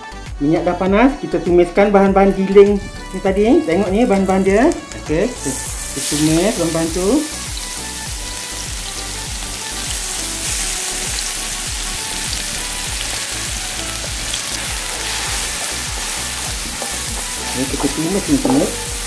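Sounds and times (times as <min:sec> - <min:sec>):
spice paste sizzling in oil: 0:02.4 - 0:19.0.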